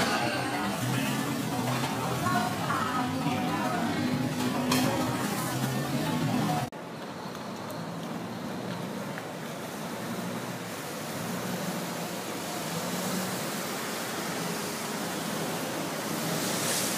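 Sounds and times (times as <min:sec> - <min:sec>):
boat wake churning: 0:00.0 - 0:16.9.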